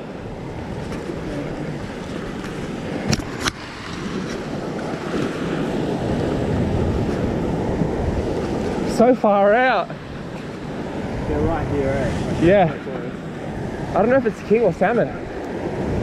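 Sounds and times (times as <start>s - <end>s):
waves washing against rocks: 0.0s - 16.0s
wind buffeting microphone: 0.0s - 16.0s.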